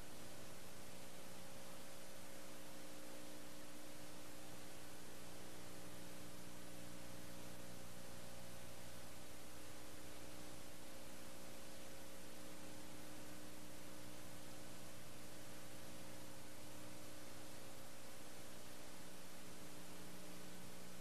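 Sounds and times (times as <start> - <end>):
low electrical hum: 0.0 - 21.0
steady hiss: 0.0 - 21.0.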